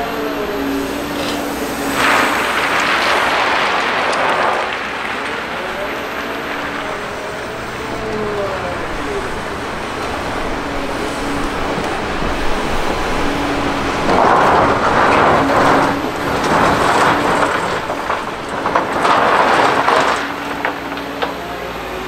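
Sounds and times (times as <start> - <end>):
heavy machine engine hum: 0.0 - 22.0.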